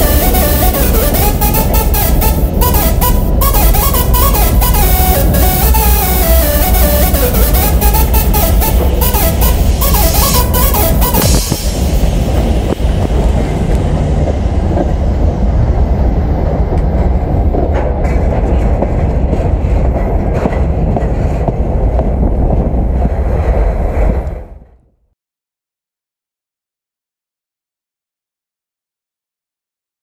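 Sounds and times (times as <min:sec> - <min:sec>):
train wheels rumbling on rails: 0:00.0 - 0:24.8.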